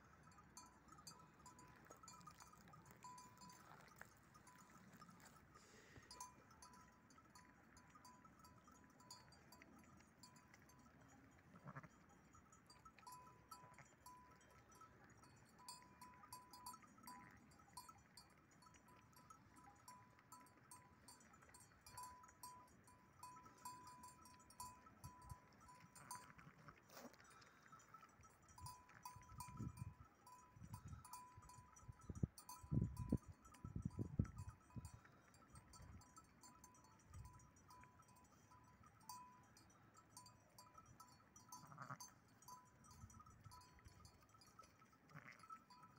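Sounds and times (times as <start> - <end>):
distant sheep bells ringing: 0.0 - 45.9.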